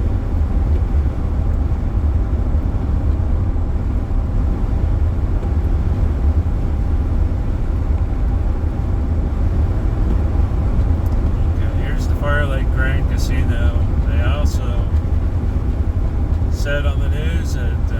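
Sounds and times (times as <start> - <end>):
road and wind noise in car: 0.0 - 17.9.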